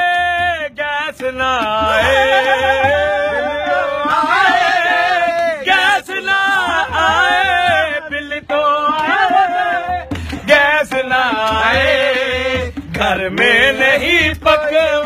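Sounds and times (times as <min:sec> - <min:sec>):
hand drum: 0:00.0 - 0:15.0
men singing folk song: 0:00.0 - 0:15.0.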